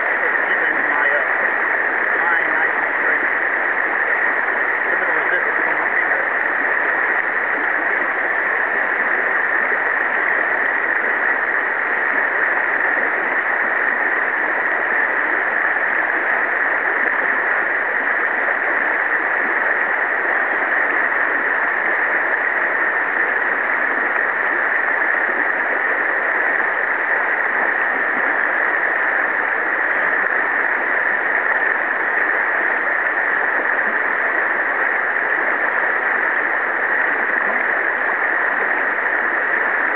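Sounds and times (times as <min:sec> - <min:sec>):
river water rushing over riffle: 0:00.0 - 0:39.9.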